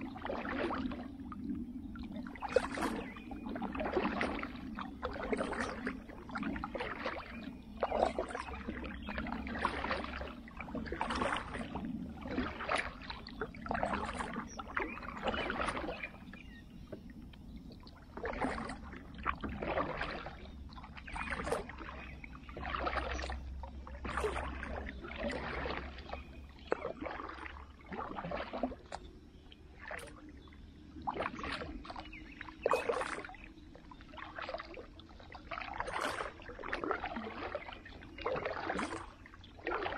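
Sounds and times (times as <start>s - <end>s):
kayak paddle splashing: 0.0s - 39.9s.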